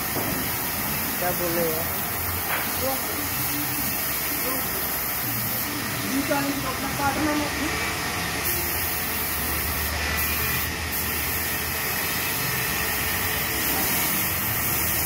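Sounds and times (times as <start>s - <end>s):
steady workshop hiss: 0.0s - 15.0s.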